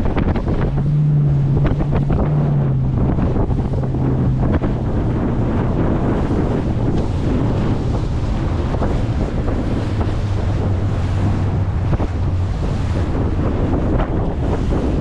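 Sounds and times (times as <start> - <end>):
outboard motor droning: 0.0 - 15.0
water rushing against hull: 0.0 - 15.0
wind buffeting microphone: 0.0 - 15.0.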